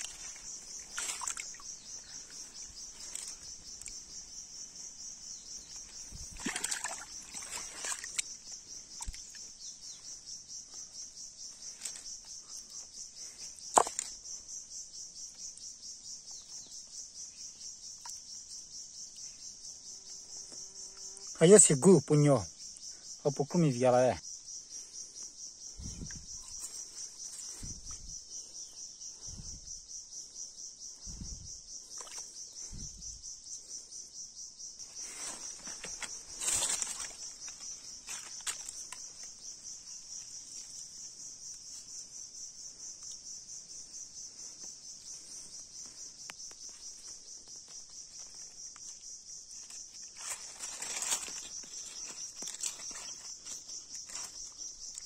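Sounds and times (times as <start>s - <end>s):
insect chorus trilling: 0.0s - 55.0s.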